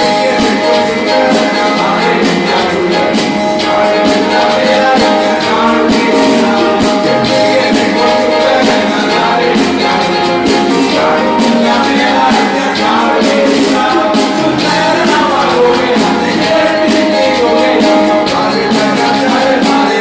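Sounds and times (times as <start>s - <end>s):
keyboard: 0.0s - 20.0s
people singing: 0.0s - 20.0s
percussion beat: 0.0s - 20.0s.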